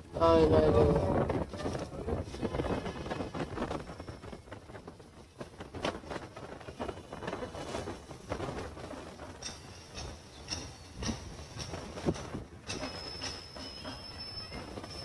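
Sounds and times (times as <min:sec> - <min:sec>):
storm wind on microphone: 0:00.0 - 0:12.9.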